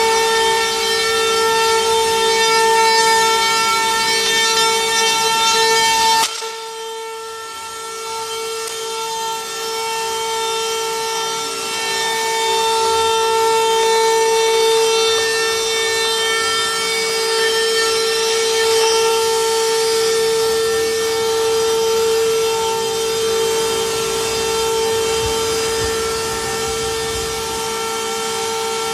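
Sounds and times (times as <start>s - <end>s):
router spindles high-pitched whine: 0.0s - 28.9s.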